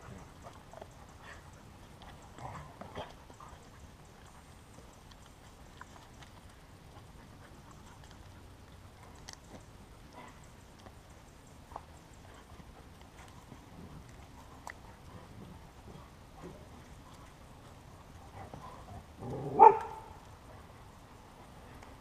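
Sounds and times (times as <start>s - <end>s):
dogs' footsteps on dry dirt: 0.0s - 22.0s
low steady rumble: 0.0s - 22.0s.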